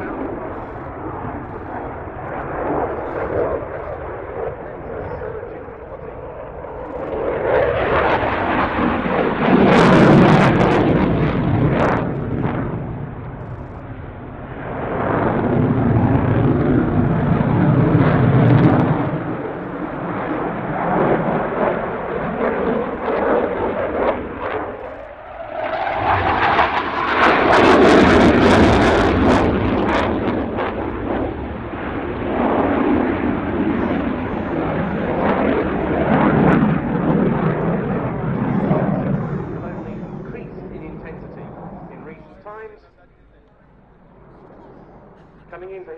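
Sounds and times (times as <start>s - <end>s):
jet engines roaring: 0.0s - 45.9s.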